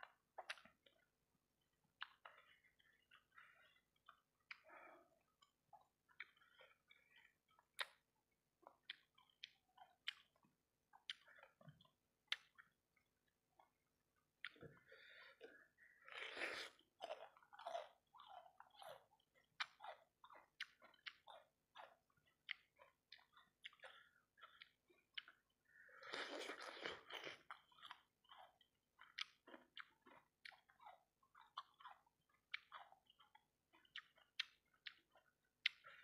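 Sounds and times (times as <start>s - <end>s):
close chewing with wet smacking: 0.0s - 36.0s.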